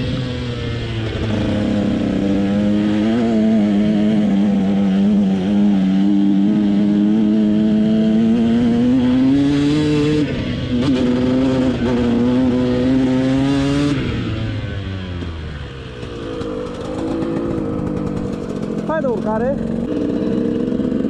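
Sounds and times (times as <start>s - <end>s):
two-stroke motorcycle engine: 0.0s - 21.0s.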